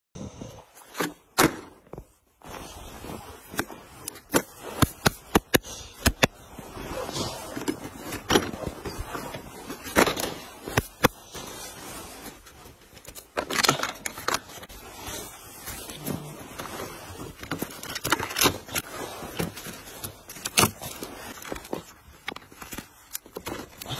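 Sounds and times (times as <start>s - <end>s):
glove and snow rustling: 0.2s - 23.9s.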